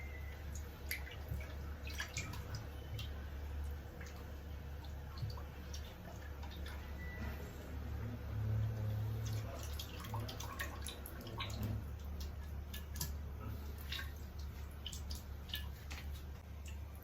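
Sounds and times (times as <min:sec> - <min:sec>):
liquid dripping in a pot: 0:00.0 - 0:07.2, 0:08.3 - 0:17.0.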